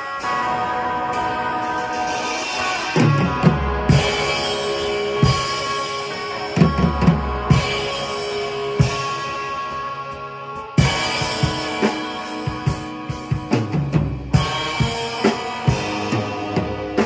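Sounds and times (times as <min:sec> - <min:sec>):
drum kit beat: 0:00.0 - 0:17.0
electric guitar rock riff: 0:00.0 - 0:17.0.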